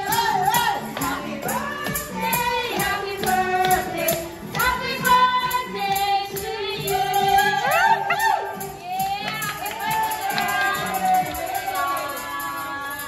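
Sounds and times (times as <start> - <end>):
upbeat song with singing: 0.0 - 13.0.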